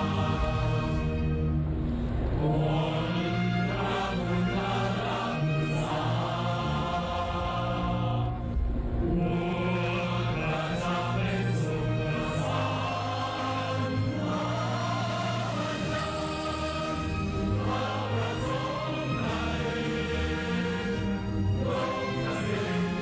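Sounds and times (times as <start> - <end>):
choir singing held notes: 0.0 - 23.0
instrumental accompaniment with bass: 0.0 - 23.0.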